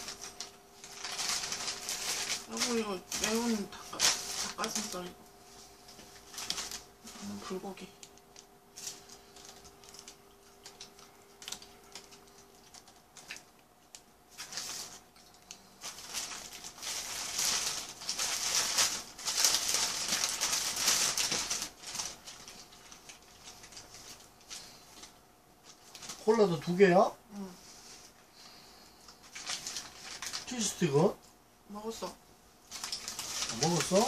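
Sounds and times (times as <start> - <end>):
paper wrapper crinkling: 0.0 - 27.0, 27.8 - 31.2, 32.6 - 34.0.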